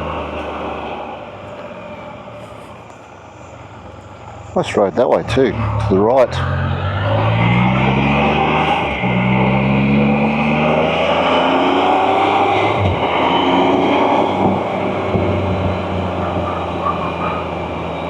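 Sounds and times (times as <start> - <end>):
three-wheeler engine accelerating: 0.0 - 2.4, 3.6 - 18.0
road and wind noise: 0.0 - 18.0.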